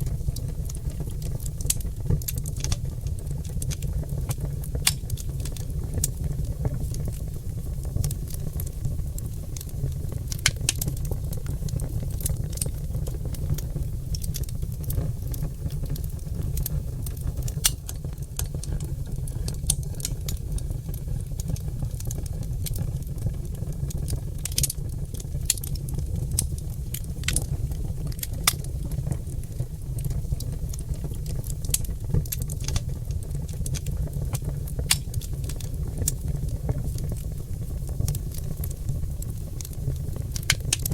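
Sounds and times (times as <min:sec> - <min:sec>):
logs crackling in a fireplace: 0:00.0 - 0:40.9.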